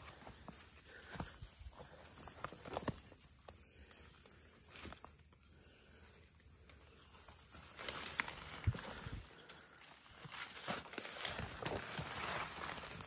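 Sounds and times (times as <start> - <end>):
footsteps outdoors: 0.0 - 5.4, 6.5 - 13.0.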